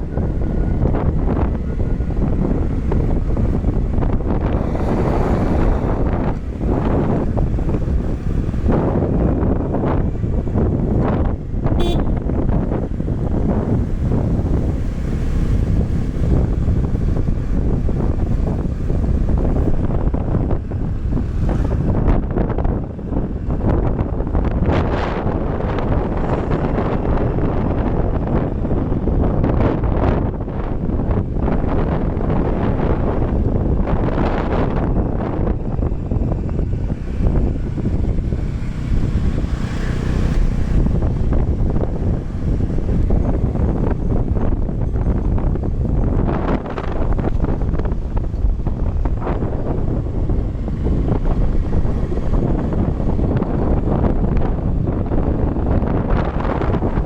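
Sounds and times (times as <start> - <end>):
vehicle noise: 0.0 - 57.0
wind buffeting microphone: 0.0 - 57.0.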